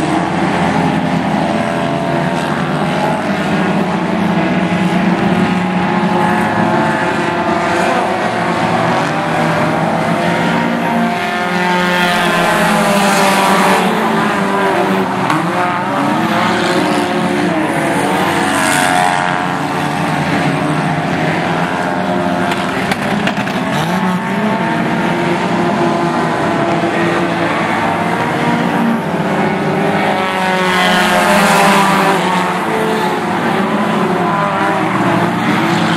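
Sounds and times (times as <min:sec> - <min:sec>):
race car engines passing: 0:00.0 - 0:35.9.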